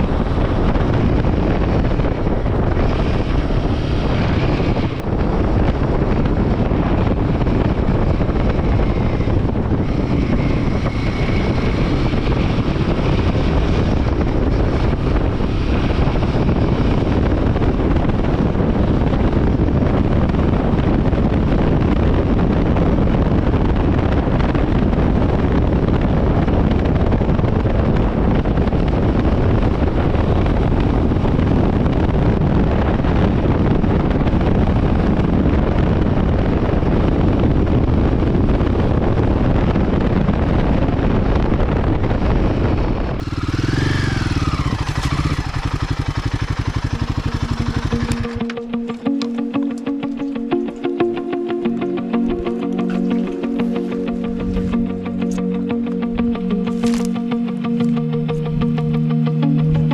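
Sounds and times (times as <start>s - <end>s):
motorcycle engine running: 0.0s - 51.0s, 52.3s - 59.9s
wind buffeting microphone: 0.0s - 59.9s.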